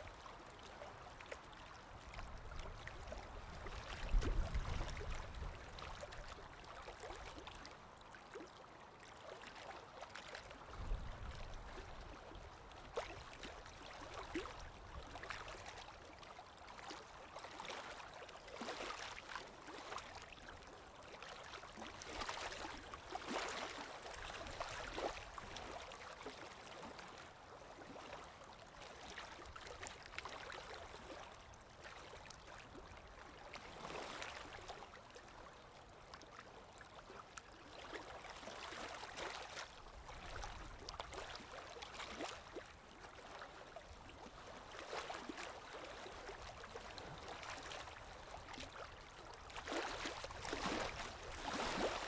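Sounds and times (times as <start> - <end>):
stream babbling and trickling: 0.0 - 52.0.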